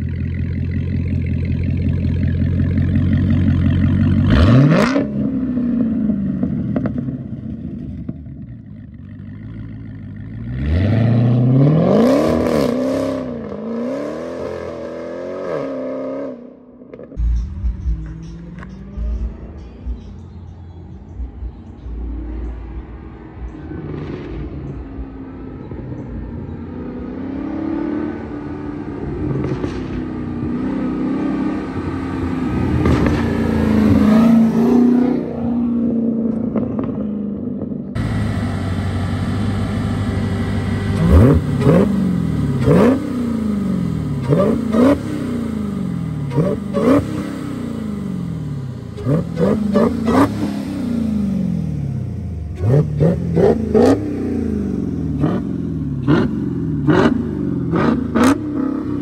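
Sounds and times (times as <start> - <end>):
loud car engine revving: 0.0 - 7.4, 9.4 - 20.1, 22.0 - 59.0.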